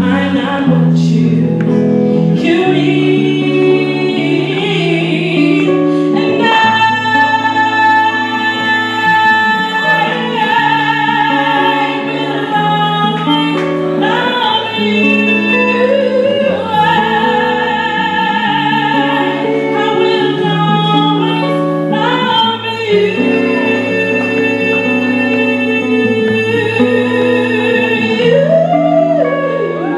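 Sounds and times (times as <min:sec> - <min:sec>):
guitar accompaniment: 0:00.0 - 0:29.9
woman singing with vibrato: 0:00.0 - 0:29.9.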